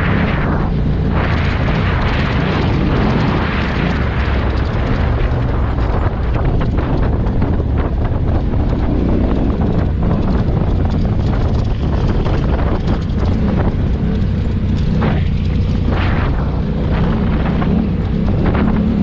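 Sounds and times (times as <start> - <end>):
motorcycle engine running: 0.0 - 19.0
wind rumble on microphone: 0.0 - 19.0.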